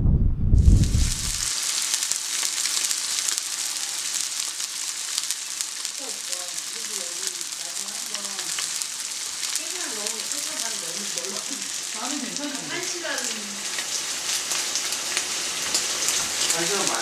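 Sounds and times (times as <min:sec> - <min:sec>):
sizzling hiss with crackles: 0:00.6 - 0:17.0.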